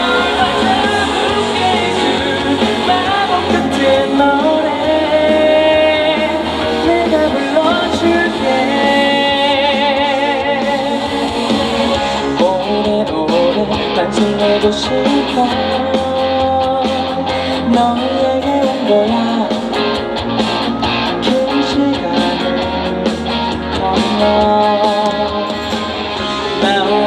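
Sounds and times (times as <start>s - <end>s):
live pop band: 0.0s - 27.0s
person singing: 0.0s - 27.0s.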